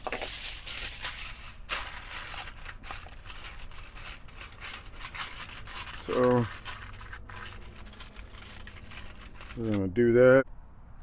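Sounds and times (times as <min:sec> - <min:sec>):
rustling and crinkling: 0:00.0 - 0:09.9.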